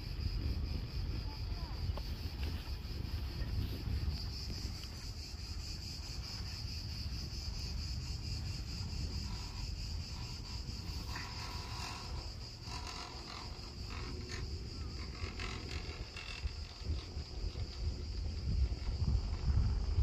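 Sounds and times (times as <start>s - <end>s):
cicadas buzzing: 0.0s - 20.0s
wind rumble on microphone: 0.0s - 20.0s.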